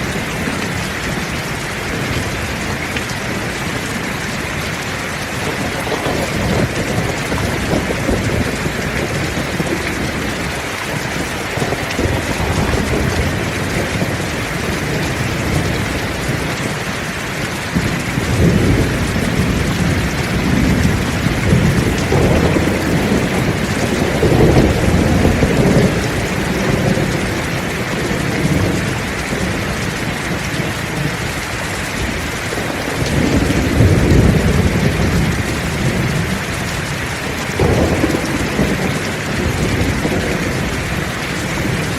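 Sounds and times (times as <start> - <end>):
heavy rain falling: 0.0 - 41.9
rolling thunder: 0.0 - 41.9.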